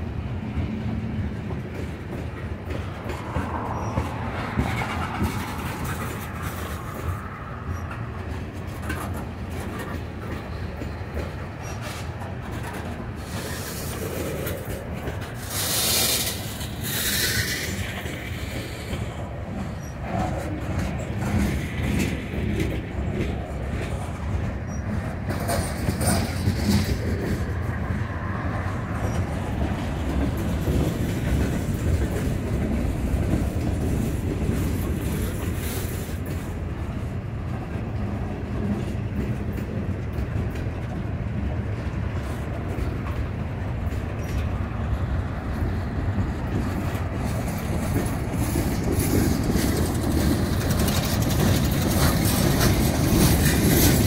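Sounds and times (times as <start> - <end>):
freight train rumble: 0.0 - 54.0
wheel clatter over rail joints: 0.4 - 54.0.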